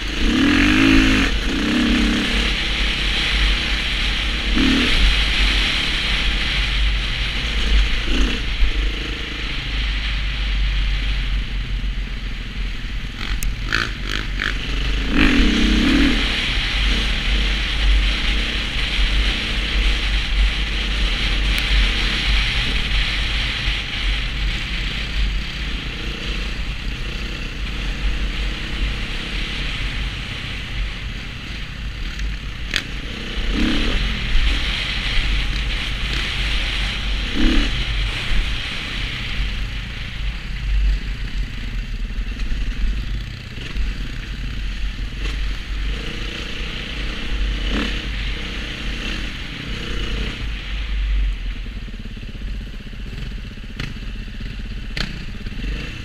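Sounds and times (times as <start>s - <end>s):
dirt bike engine running: 0.0s - 56.0s
wind rumble on microphone: 0.0s - 56.0s.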